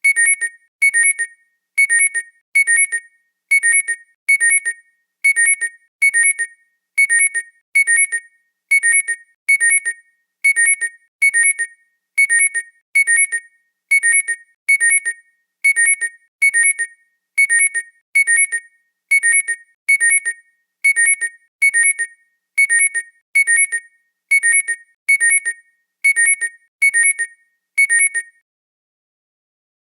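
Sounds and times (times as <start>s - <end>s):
high alarm beeps in pairs: 0.0s - 28.4s.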